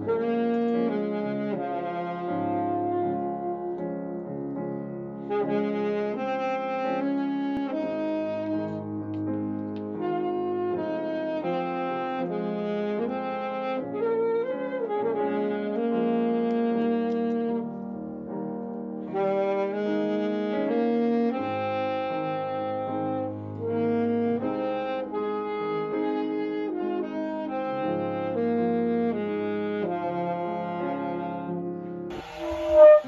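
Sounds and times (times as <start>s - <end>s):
saxophone slow melody: 0.0s - 18.4s, 19.0s - 33.0s.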